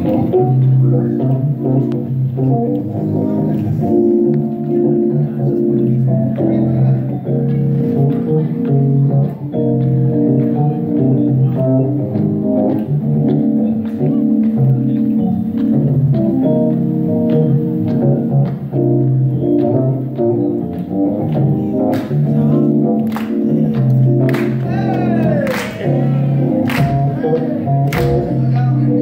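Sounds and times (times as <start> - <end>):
organ keyboard playing held chords: 0.0 - 29.0.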